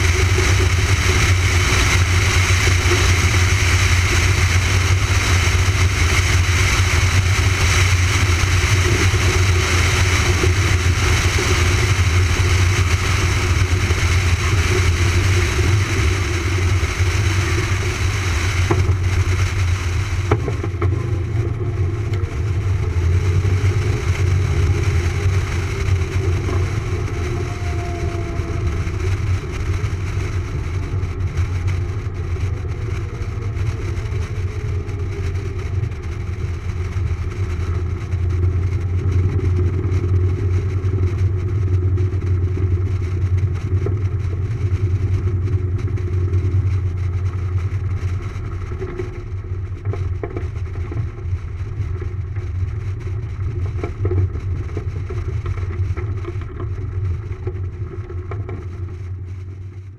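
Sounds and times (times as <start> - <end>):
radial aircraft engine humming: 0.0 - 59.9.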